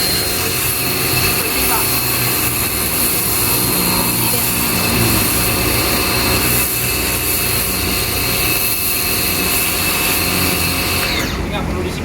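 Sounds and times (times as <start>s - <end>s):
pressure washer spraying floor: 0.0s - 11.7s.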